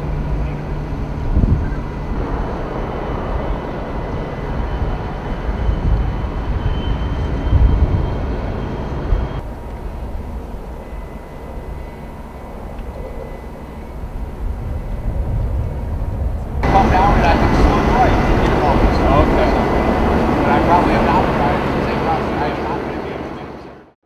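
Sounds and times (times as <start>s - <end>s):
wind on microphone: 0.0s - 23.6s
faint steady whine: 0.0s - 23.9s
cargo crane droning: 0.0s - 24.0s.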